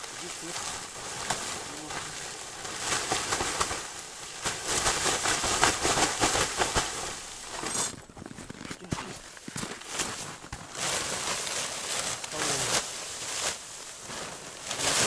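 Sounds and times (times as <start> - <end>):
tent fabric rustling: 0.0 - 15.0.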